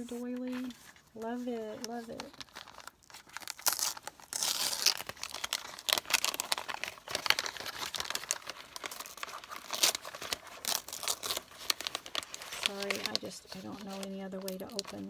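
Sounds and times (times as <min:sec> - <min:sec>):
wrapping paper crinkling and tearing: 0:00.0 - 0:15.0.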